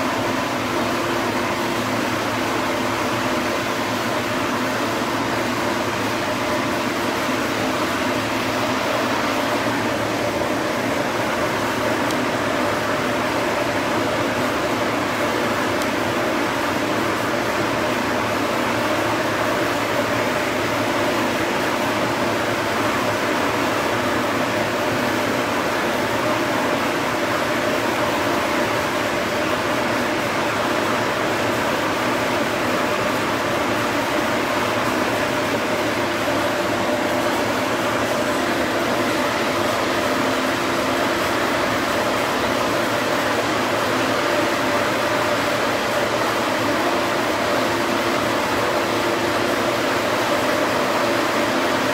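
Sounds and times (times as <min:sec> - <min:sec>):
large fan whirring: 0:00.0 - 0:51.9.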